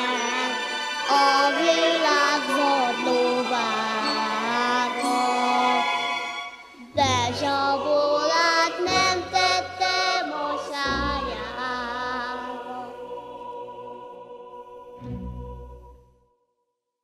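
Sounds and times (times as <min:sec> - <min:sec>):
orchestral accompaniment: 0:00.0 - 0:13.8
voices singing long notes: 0:00.0 - 0:15.8.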